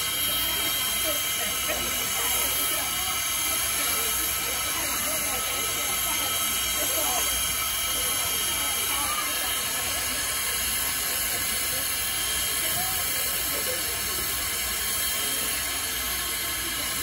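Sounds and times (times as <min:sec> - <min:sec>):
faint voices: 0:00.0 - 0:17.0
steam locomotive hissing steam: 0:00.0 - 0:17.0.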